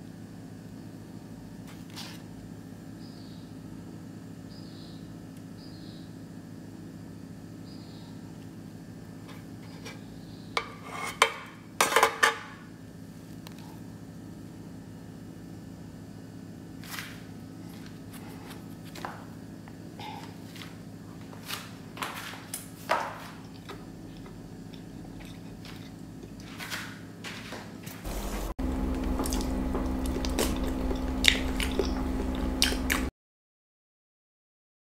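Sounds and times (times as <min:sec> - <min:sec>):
steady low hum: 0:00.0 - 0:33.1.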